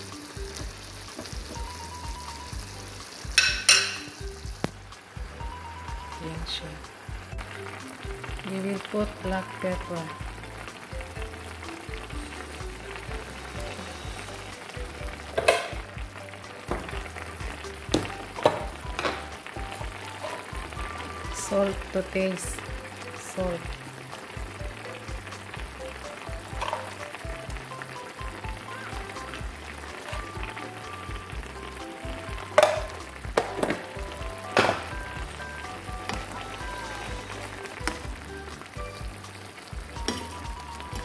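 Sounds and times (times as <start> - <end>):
background music: 0.0 - 41.0
stew simmering and sizzling: 0.0 - 41.0.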